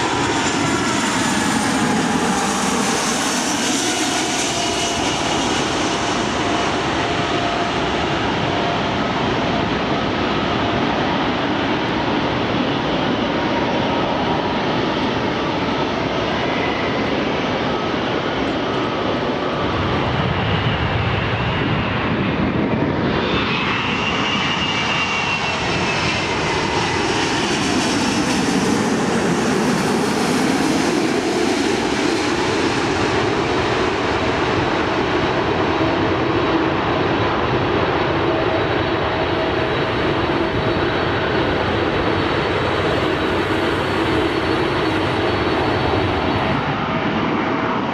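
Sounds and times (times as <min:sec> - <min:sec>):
jet airliner passing overhead: 0:00.0 - 0:47.9.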